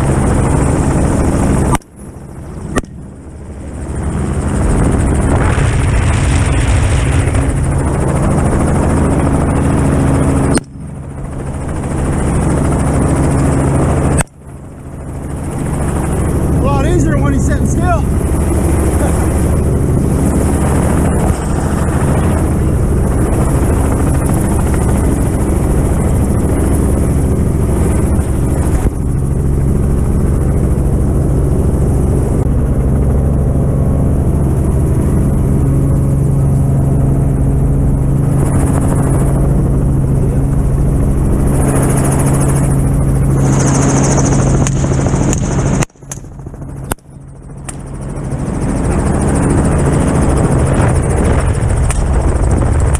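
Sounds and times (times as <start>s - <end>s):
helicopter engine and rotor: 0.0s - 52.9s.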